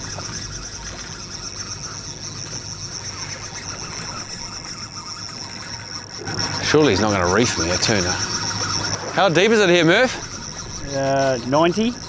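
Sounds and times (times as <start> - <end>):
fishing reel drag buzzing: 0.0 - 12.0.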